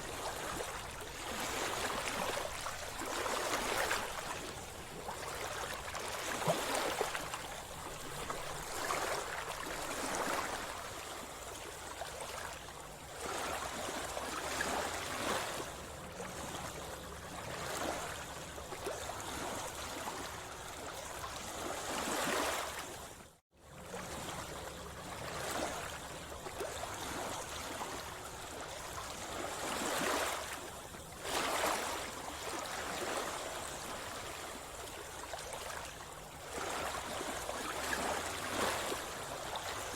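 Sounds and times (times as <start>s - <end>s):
sea water sloshing and splashing: 0.0s - 39.9s.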